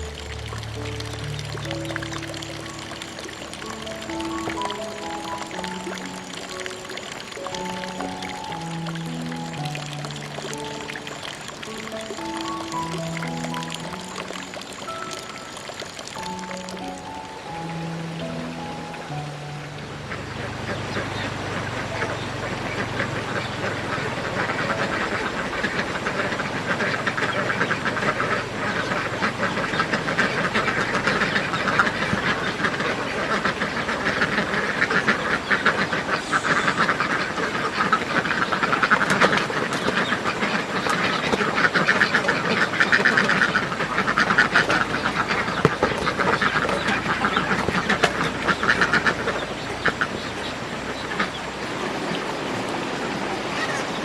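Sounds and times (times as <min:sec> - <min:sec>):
ducks quacking: 0:00.0 - 0:52.3.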